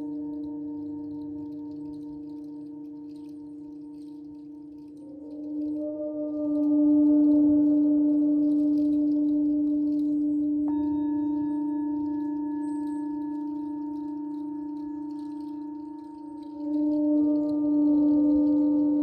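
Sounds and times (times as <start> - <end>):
higher singing bowl tone: 0.0 - 19.0
low singing bowl humming: 0.0 - 19.0.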